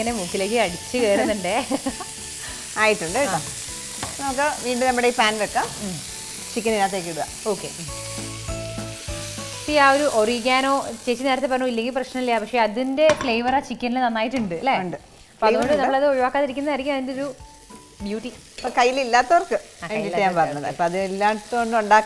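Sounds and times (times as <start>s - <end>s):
chicken sizzling in oil: 0.0s - 13.8s, 14.6s - 22.0s.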